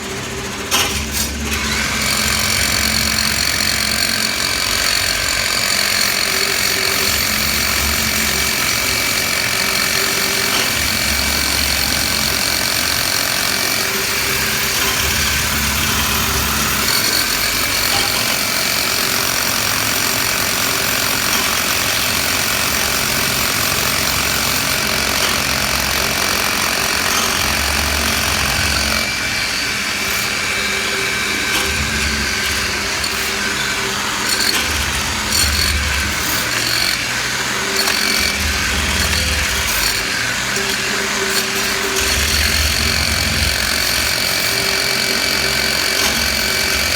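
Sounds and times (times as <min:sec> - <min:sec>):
power drill whining: 0:00.0 - 0:46.9.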